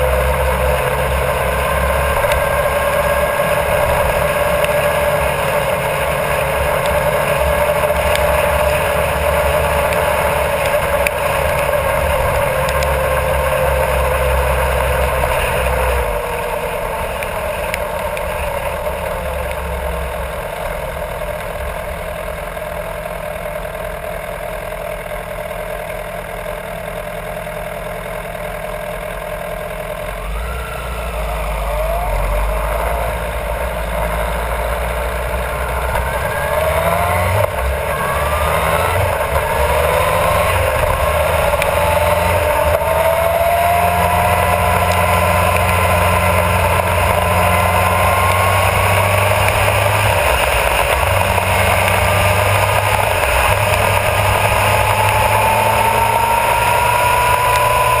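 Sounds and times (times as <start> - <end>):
wind and tyre noise: 0.0 - 23.5, 29.5 - 58.0
motorcycle engine accelerating: 0.0 - 58.0.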